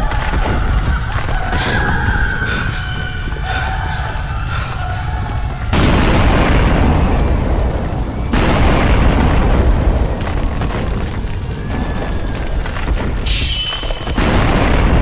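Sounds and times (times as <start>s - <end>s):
explosion-like booms: 0.0s - 15.0s
steady low rumble: 0.0s - 15.0s.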